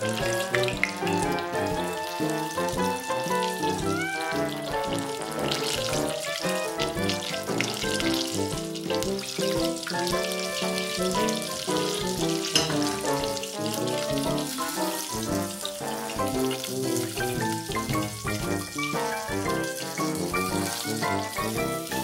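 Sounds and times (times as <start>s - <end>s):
background music: 0.0s - 22.0s
chicken deep-frying in oil: 0.0s - 22.0s.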